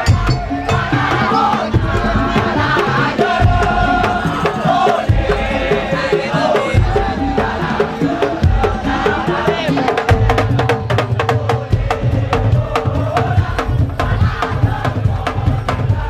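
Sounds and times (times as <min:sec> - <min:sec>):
clacking percussion: 0:00.0 - 0:16.0
deep drum strokes: 0:00.0 - 0:16.0.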